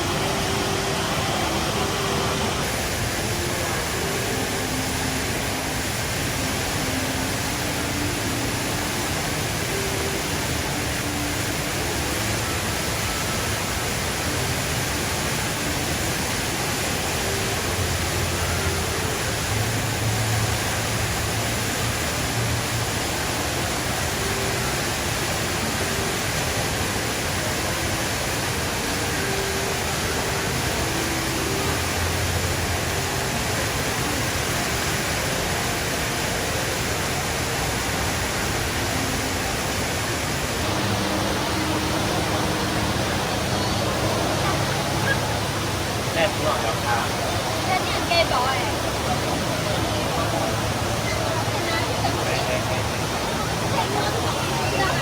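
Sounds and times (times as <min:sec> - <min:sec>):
indoor waterfall rushing: 0:00.0 - 0:55.0.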